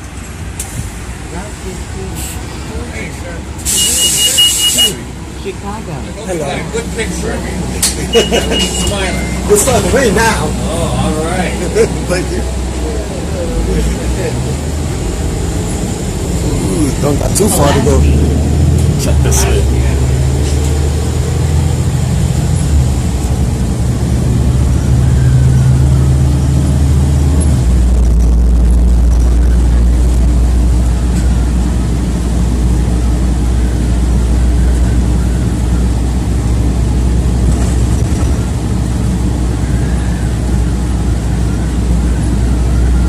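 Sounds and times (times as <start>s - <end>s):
bus engine droning: 0.0s - 43.0s
road noise: 0.0s - 43.0s.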